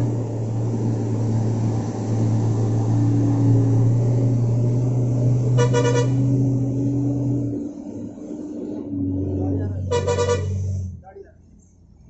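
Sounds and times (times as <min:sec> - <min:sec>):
diesel bus engine drone: 0:00.0 - 0:12.0.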